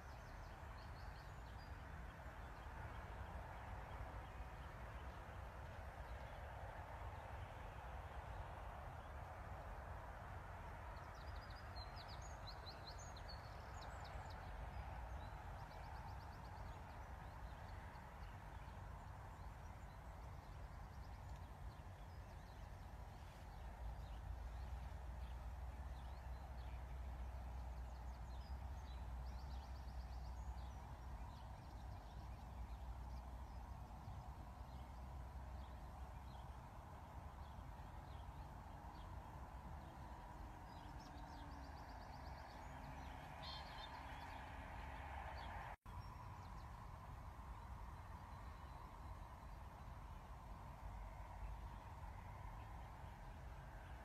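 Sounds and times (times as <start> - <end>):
low rumble and hiss: 0.0 - 54.0
distant birds twittering: 10.6 - 54.0.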